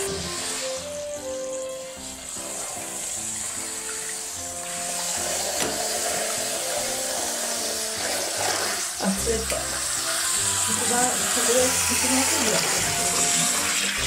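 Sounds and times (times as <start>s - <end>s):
shower water running: 0.0s - 14.0s.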